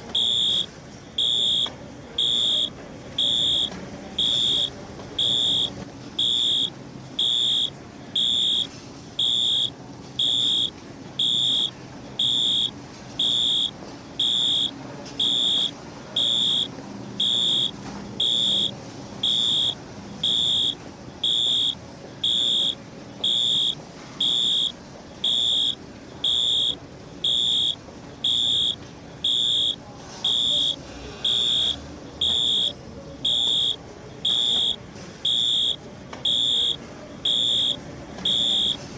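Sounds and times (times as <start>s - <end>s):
fire alarm beeping: 0.0s - 38.9s.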